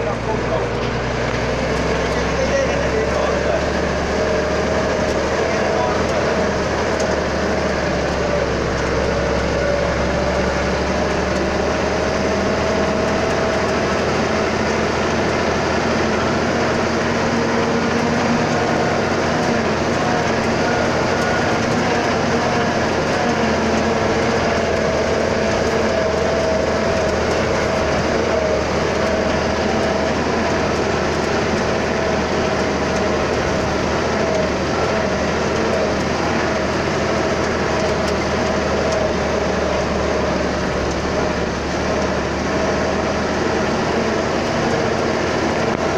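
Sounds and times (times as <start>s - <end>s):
truck engine running: 0.0s - 45.9s.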